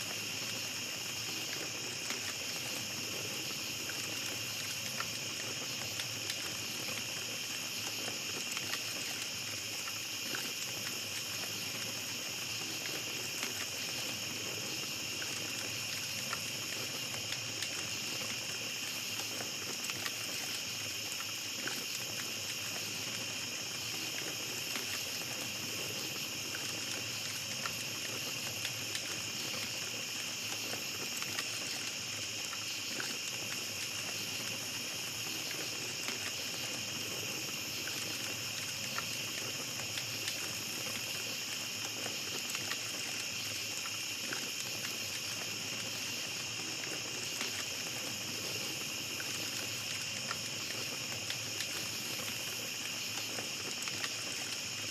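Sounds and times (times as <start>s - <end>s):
campfire crackling: 0.0s - 54.9s
night insects chirping: 0.0s - 54.9s.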